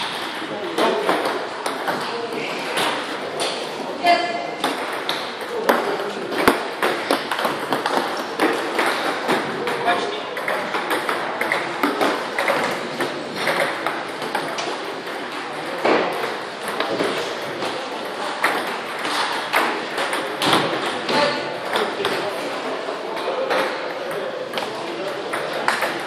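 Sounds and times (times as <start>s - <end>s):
table tennis balls clicking: 0.0s - 3.9s, 4.6s - 26.0s.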